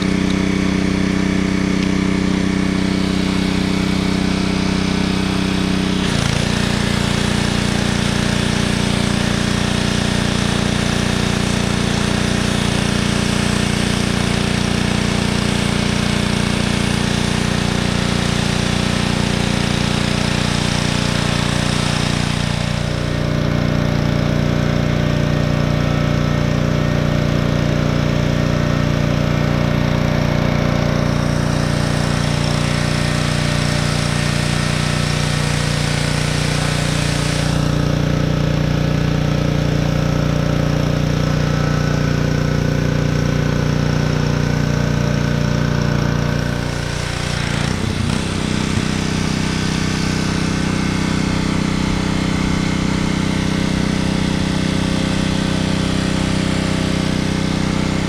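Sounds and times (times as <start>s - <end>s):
hissing water spray: 0.0s - 25.9s, 27.2s - 58.0s
pressure washer engine running: 0.0s - 58.0s.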